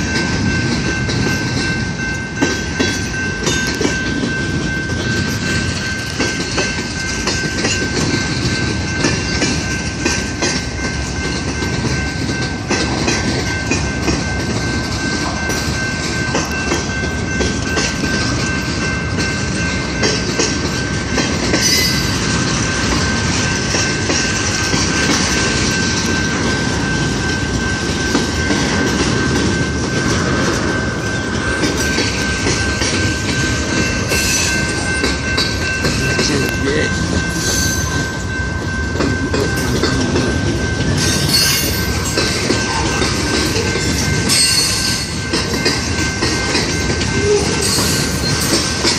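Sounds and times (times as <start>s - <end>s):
freight train rumbling past: 0.0s - 48.9s
wheels clattering over rail joints: 0.0s - 48.9s.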